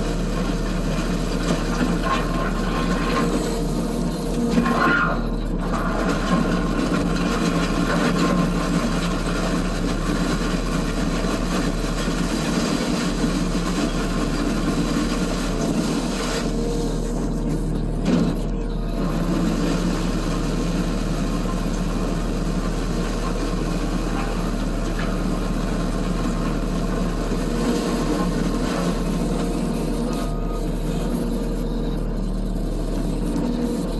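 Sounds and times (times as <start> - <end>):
diesel skid steer engine running: 0.0 - 33.9.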